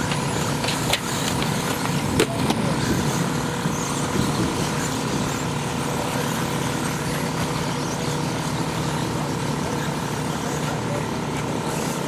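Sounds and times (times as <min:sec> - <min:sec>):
toy cars humming and whirring: 0:00.0 - 0:12.0.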